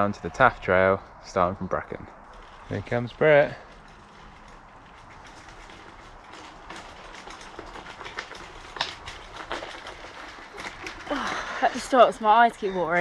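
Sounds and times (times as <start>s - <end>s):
bicycle tyres crackling over grit: 0.0s - 13.0s
bicycle clicks and rattles: 1.6s - 13.0s.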